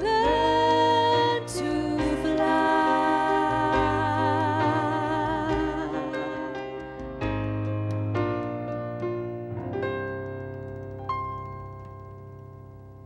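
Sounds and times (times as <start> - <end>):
slow ballad music: 0.0 - 13.0.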